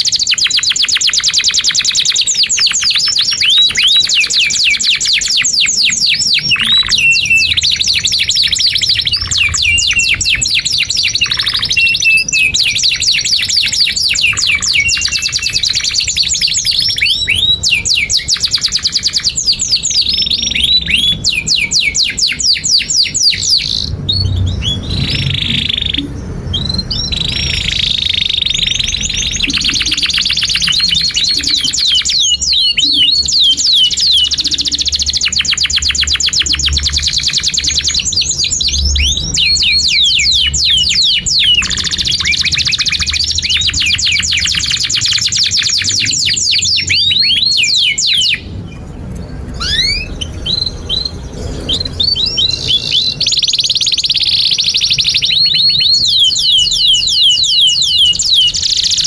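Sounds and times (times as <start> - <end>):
canary singing: 0.0 - 59.0.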